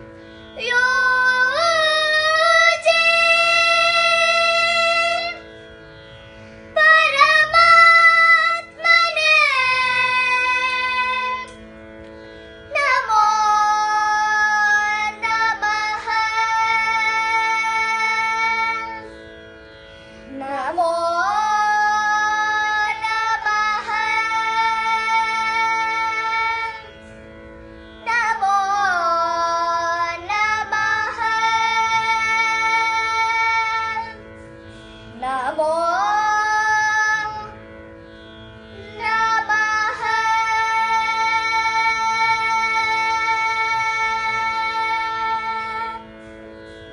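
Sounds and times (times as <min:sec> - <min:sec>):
steady drone: 0:00.0 - 0:46.9.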